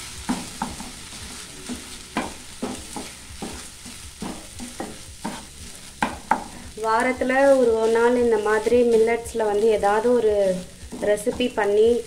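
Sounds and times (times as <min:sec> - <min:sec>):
wooden spatula scraping a pan: 0:00.0 - 0:12.0.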